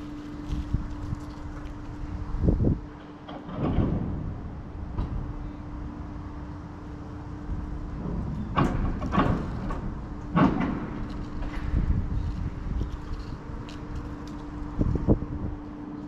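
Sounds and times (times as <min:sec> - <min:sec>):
low hum over rumble: 0:00.0 - 0:16.0.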